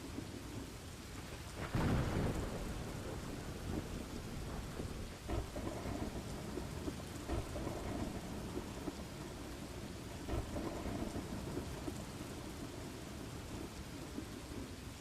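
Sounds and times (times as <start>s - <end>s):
steady rain: 0.0s - 15.0s
thunder rumbling: 1.1s - 15.0s.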